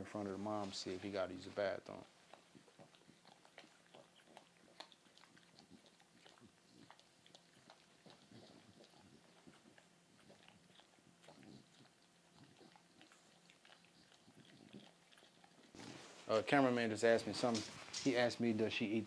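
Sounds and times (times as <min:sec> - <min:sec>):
puppies nursing wet smacking: 0:00.4 - 0:15.9.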